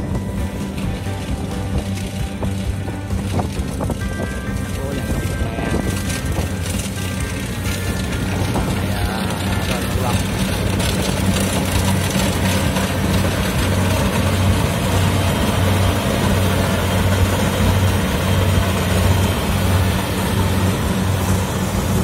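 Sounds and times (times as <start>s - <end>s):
combine harvester running: 0.0s - 22.0s
diesel engine low drone: 0.0s - 22.0s.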